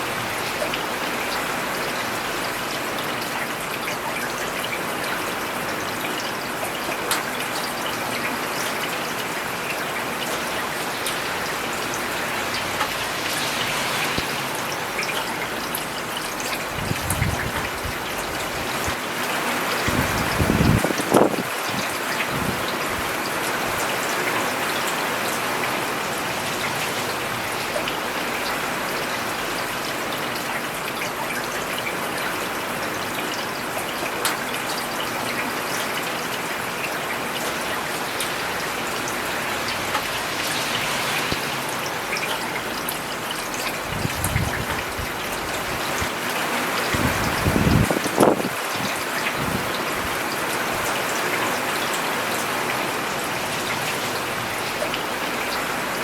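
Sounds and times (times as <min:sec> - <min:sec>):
rain falling on road: 0:00.0 - 0:56.0
water trickling: 0:00.1 - 0:56.0.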